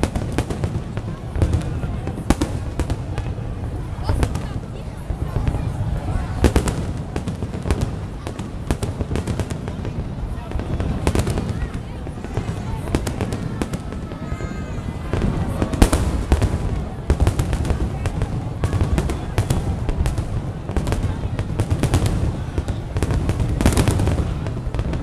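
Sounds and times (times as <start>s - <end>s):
crowd voices: 0.0s - 25.0s
fireworks bangs and crackles: 0.0s - 25.0s.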